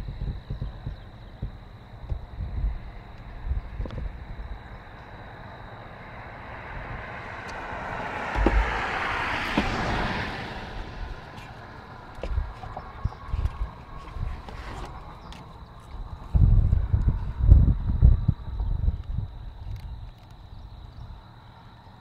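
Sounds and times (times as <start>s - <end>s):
wind thumps on microphone: 0.0s - 5.2s, 6.5s - 21.1s
vehicle passing on road: 0.8s - 22.0s.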